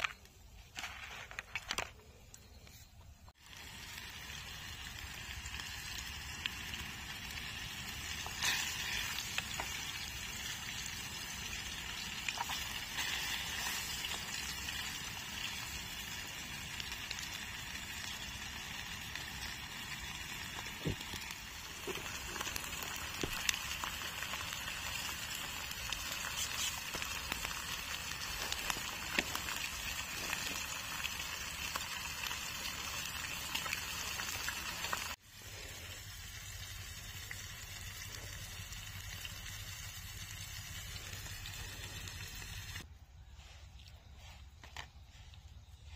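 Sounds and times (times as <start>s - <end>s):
oil crackles and pops: 0.0s - 42.9s
food sizzling in hot oil: 3.3s - 42.9s.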